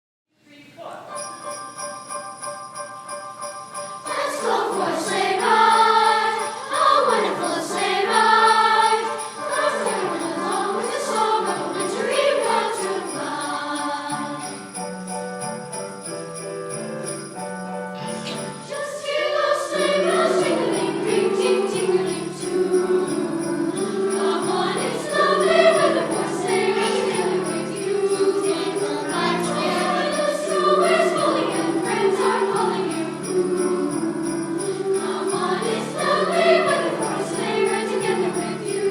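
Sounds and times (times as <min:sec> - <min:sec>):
youth choir singing: 0:04.0 - 0:14.8, 0:18.0 - 0:38.9.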